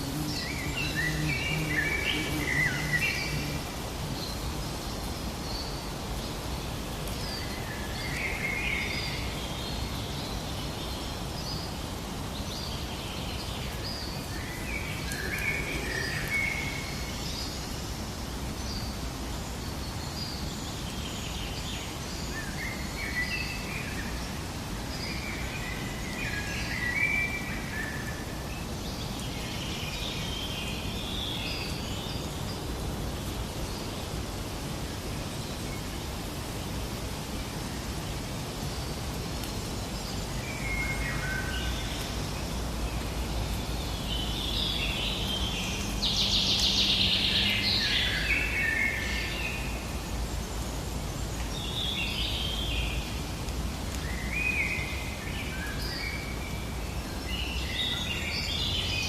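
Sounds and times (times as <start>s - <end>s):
outdoor ambience hiss: 0.0s - 59.0s.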